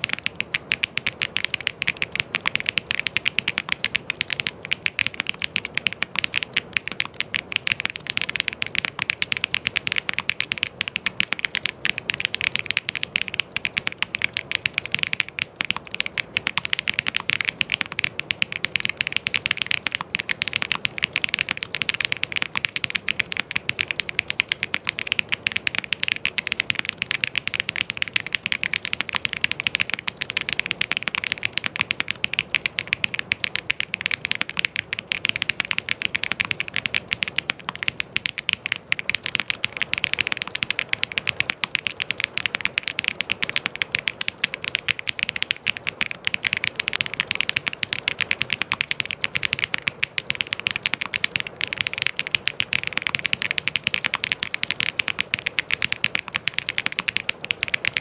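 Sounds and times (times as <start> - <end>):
fast mechanical keyboard typing: 0.0 - 58.0.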